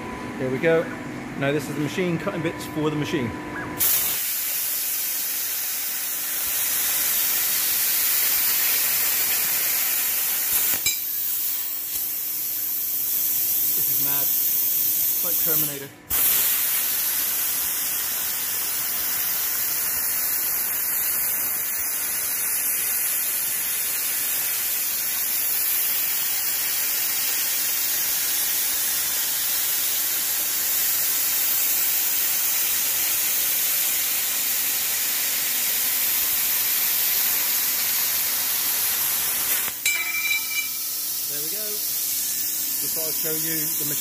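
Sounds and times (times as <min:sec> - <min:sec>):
plasma cutter hissing: 0:03.8 - 0:44.0.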